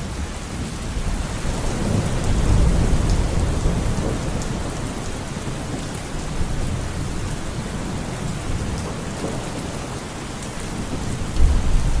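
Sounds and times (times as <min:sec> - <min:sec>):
steady rain: 0:00.0 - 0:12.0
rolling thunder: 0:00.9 - 0:10.0, 0:10.6 - 0:12.0.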